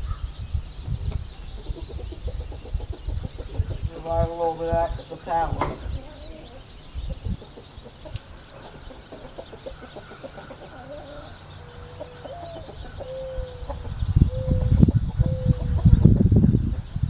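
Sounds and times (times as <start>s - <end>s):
chickens clucking: 1.1s - 17.0s.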